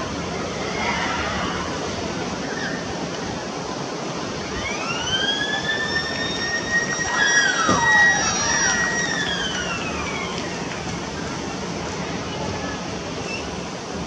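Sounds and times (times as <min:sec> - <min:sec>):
steady rushing background noise: 0:00.0 - 0:14.0.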